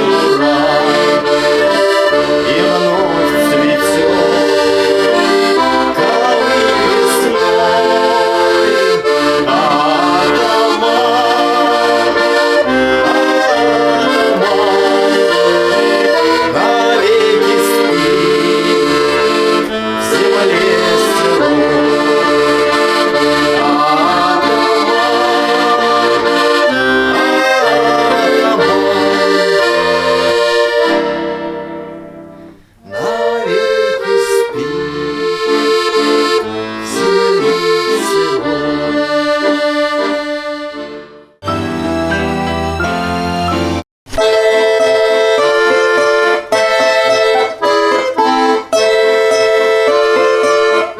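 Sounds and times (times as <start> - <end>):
accordion playing folk tune: 0.0 - 50.9.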